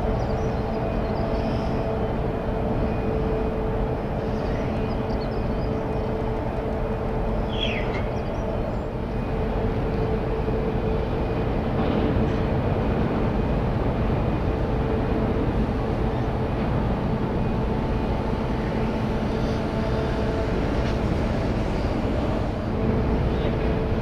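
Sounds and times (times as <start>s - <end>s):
machinery hum: 0.0s - 24.0s
ship engines rumbling: 0.0s - 24.0s.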